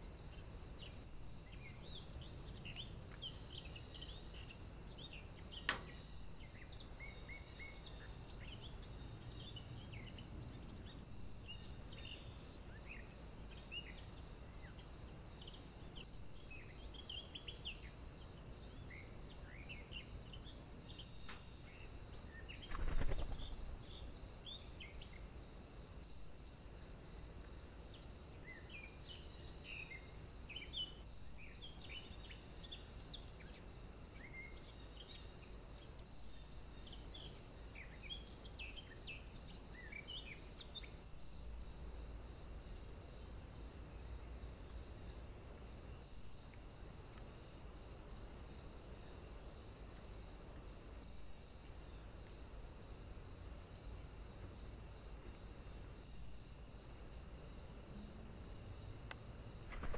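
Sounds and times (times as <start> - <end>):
insect chirring: 0.0 - 59.9
rustle: 0.0 - 59.9.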